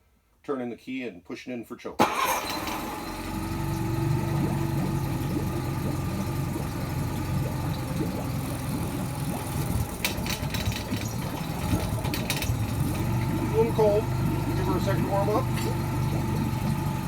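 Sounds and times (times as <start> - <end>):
outboard motor starting and idling: 2.0 - 17.0.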